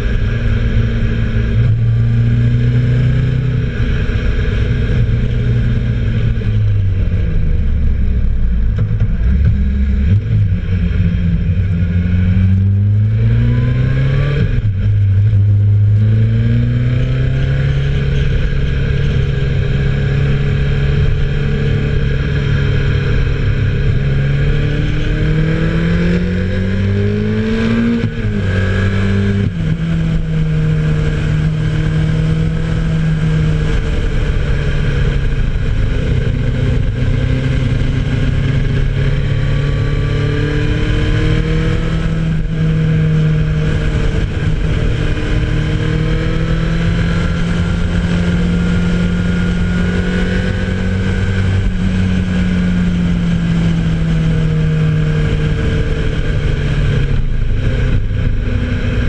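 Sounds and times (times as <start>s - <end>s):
wind and road rush: 0.0s - 59.0s.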